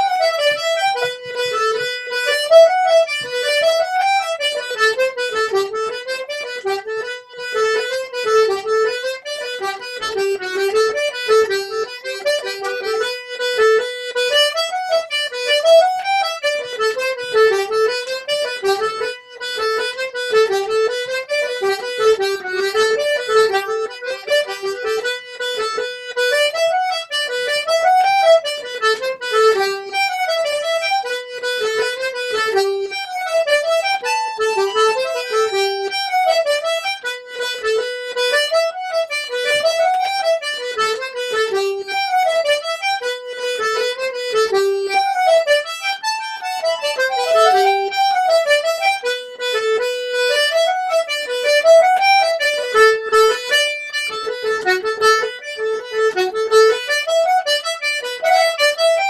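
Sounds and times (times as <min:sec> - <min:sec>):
button accordions playing a reel: 0:00.0 - 0:59.0.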